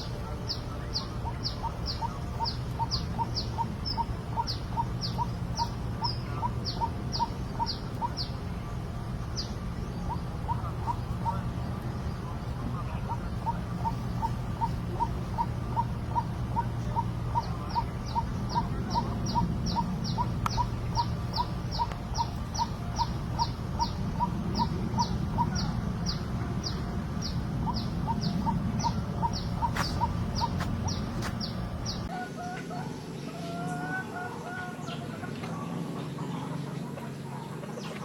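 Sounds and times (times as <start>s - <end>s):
low steady rumble: 0.0s - 32.1s
soft warbling bird calls: 0.0s - 38.0s.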